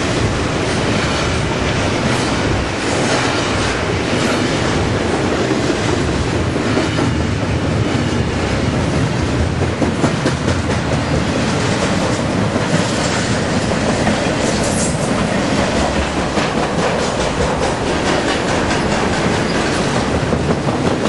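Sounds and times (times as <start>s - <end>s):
freight train rolling past: 0.0s - 21.0s
steel wheels clicking on rail joints: 0.0s - 21.0s.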